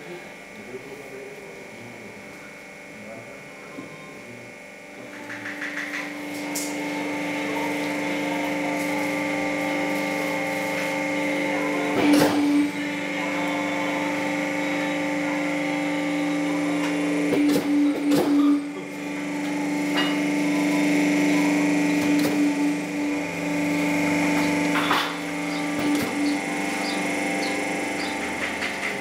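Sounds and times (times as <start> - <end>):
electric motor humming: 0.0 - 29.0.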